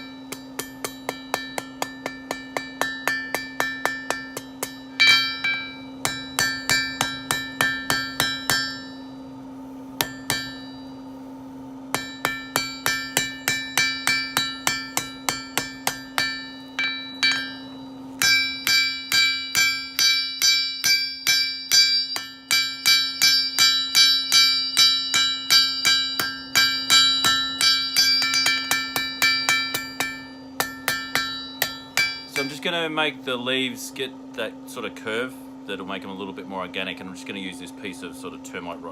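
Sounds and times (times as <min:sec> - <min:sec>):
anvil ringing: 0:00.0 - 0:09.2, 0:10.0 - 0:11.1, 0:11.9 - 0:32.8
hammer striking steel on anvil: 0:00.0 - 0:09.3, 0:09.9 - 0:11.2, 0:11.9 - 0:33.0
steady low hum: 0:00.0 - 0:38.9.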